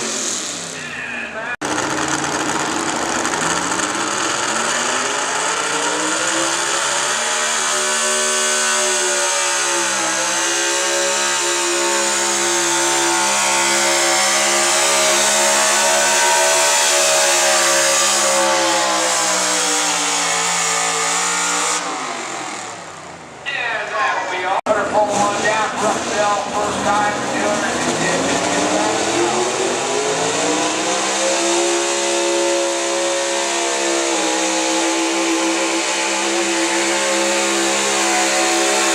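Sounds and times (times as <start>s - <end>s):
pickup truck engine at full throttle: 0.0s - 23.4s, 24.7s - 38.9s.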